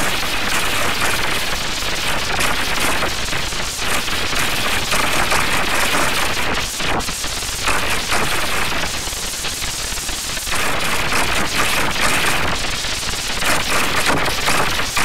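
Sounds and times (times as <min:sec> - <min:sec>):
distorted crackling noise: 0:00.0 - 0:15.0.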